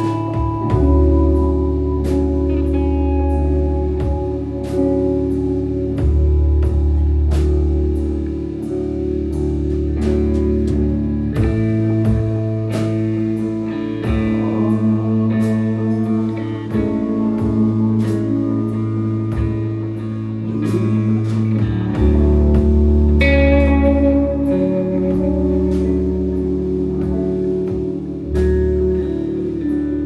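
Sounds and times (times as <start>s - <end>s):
bass guitar: 0.0s - 30.0s
drums: 0.0s - 30.0s
electric guitar chords: 0.0s - 30.0s.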